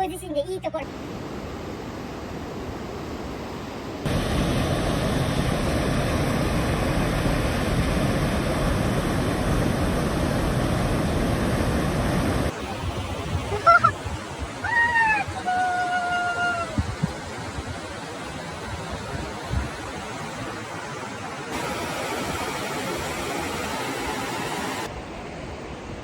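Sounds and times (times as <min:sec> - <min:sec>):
rushing water: 0:00.8 - 0:26.0.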